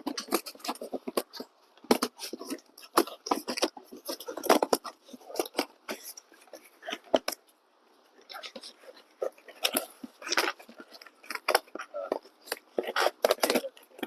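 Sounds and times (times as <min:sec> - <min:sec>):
packaging rustling and crinkling: 0:00.0 - 0:07.5, 0:08.2 - 0:14.0.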